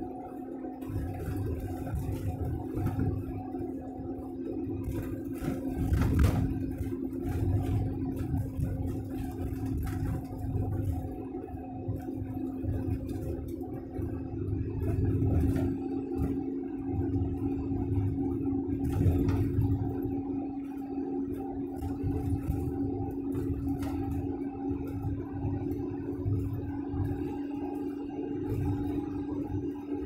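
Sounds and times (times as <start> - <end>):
truck engine drone: 0.0 - 30.0.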